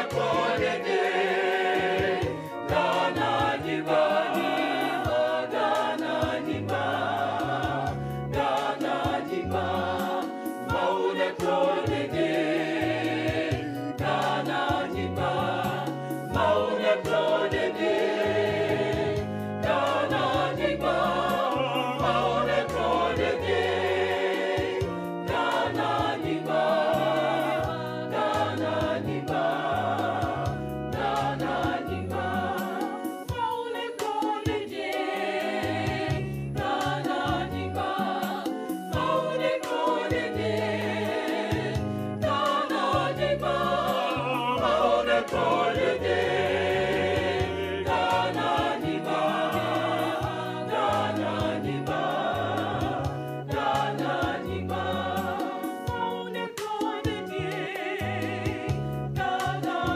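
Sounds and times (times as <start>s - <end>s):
voices singing together: 0.0s - 59.9s.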